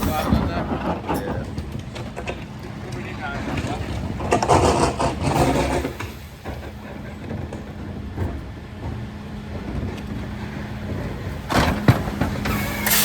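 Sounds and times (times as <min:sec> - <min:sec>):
loud rattling clatter: 0:00.0 - 0:09.0, 0:10.8 - 0:13.0
refuse truck engine running: 0:00.0 - 0:13.0.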